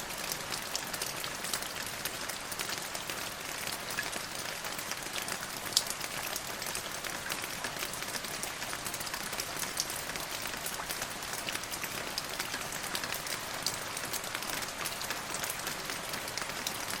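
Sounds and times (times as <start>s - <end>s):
rain drops on hard surface: 0.0s - 17.0s
rain hiss: 0.0s - 17.0s.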